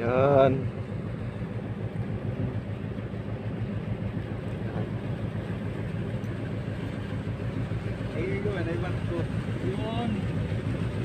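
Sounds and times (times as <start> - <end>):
boat engine pulsing hum: 0.0 - 11.0.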